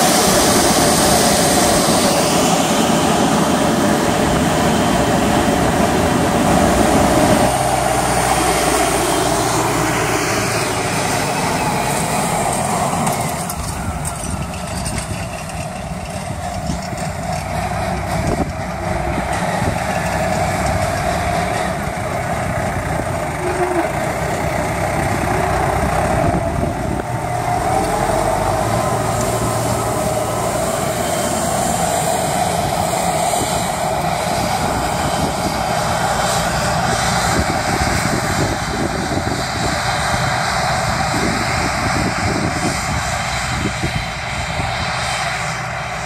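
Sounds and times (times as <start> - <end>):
fan whine: 0.0 - 46.0
tractor diesel engine drone: 0.0 - 46.0.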